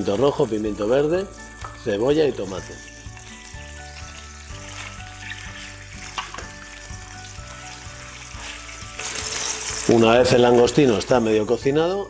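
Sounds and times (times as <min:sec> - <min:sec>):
background music: 0:00.0 - 0:12.0
food sizzling in a pan: 0:00.0 - 0:12.0.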